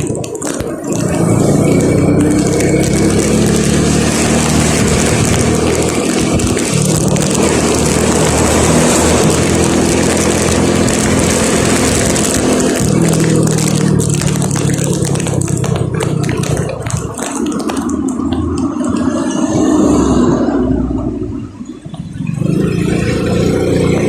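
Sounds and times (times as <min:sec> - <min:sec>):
vehicle engine running: 0:00.0 - 0:24.0
wind and road noise: 0:00.0 - 0:24.0.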